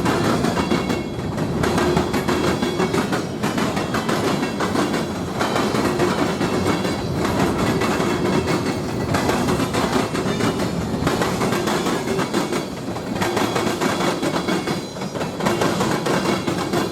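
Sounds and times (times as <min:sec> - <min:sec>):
train wheels clacking over rails: 0:00.0 - 0:16.9.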